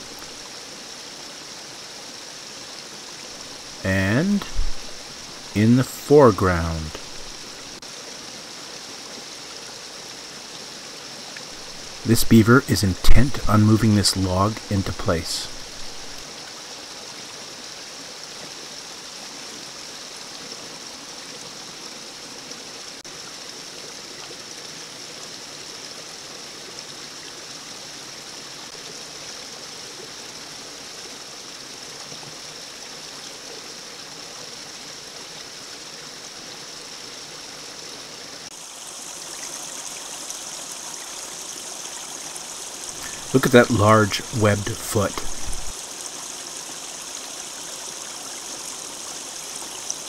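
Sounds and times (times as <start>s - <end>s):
water rushing through dam: 0.0s - 50.0s.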